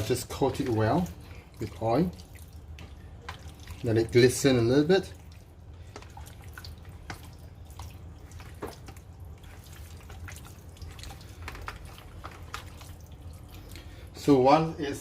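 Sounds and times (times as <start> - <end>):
wet clicks and squelches of chicken: 0.0 - 14.1.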